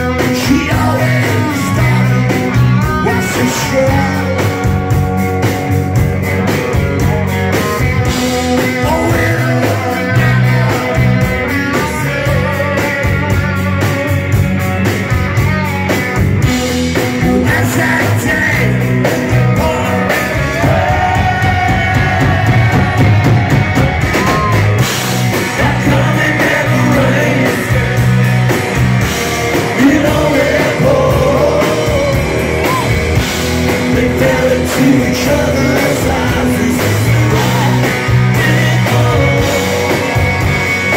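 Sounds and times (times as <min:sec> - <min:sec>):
man singing: 0:00.0 - 0:04.9, 0:06.2 - 0:14.4, 0:16.9 - 0:28.7, 0:29.5 - 0:40.9
drums: 0:00.0 - 0:40.9
electric guitars: 0:00.0 - 0:40.9.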